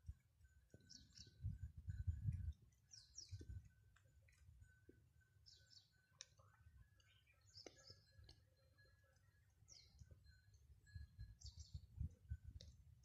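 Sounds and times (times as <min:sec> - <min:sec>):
birds chirping: 0:00.5 - 0:02.0, 0:02.7 - 0:12.0.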